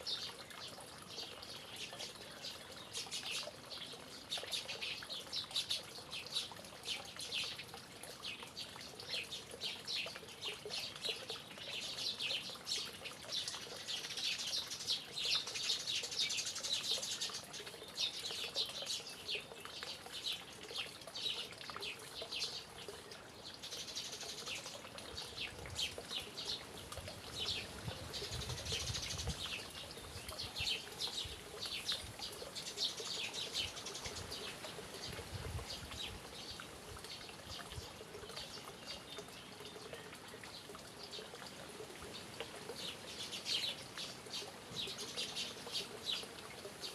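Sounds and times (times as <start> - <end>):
faint running water: 0.0 - 46.9.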